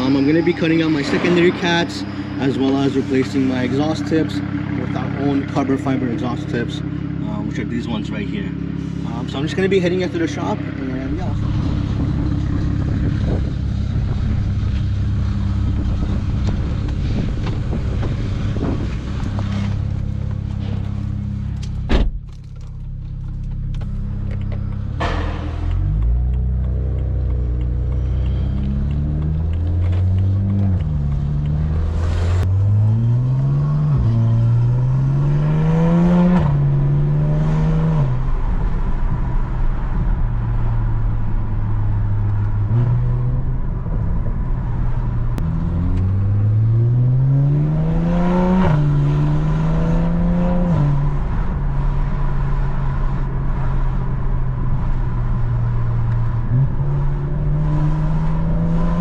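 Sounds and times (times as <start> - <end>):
car exhaust accelerating: 0.0 - 59.0.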